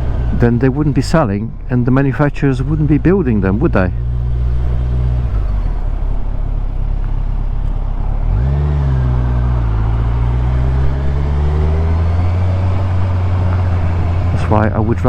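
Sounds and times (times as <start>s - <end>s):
road noise: 0.0s - 15.0s
motorcycle engine revving: 2.5s - 15.0s.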